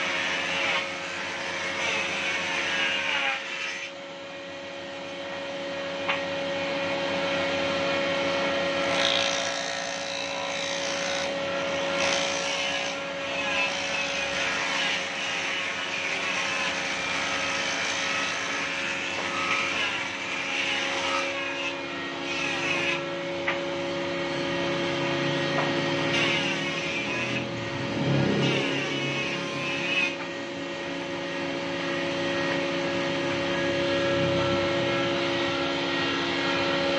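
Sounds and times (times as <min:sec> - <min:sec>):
cutterhead planing wooden board: 0:00.0 - 0:04.0, 0:06.0 - 0:36.9
jointer motor humming: 0:04.4 - 0:36.9.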